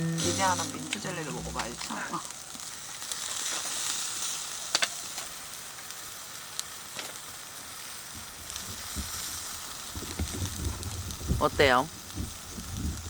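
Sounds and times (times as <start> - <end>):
ribs sizzling: 0.0 - 13.0.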